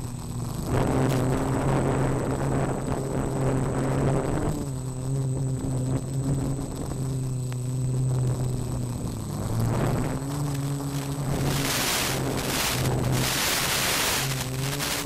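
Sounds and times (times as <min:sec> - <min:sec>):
bursts of static hiss: 0:00.0 - 0:15.0
quadcopter motors humming: 0:00.0 - 0:15.0.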